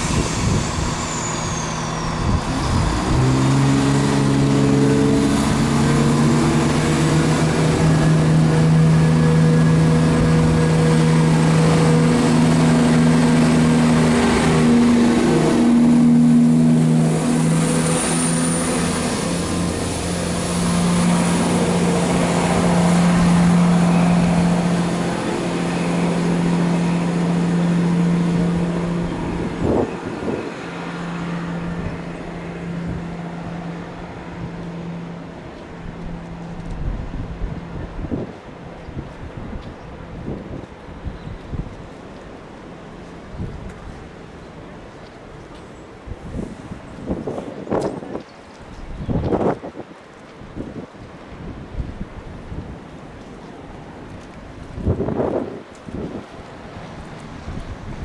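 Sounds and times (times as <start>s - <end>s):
diesel train engines running: 0.0s - 49.5s.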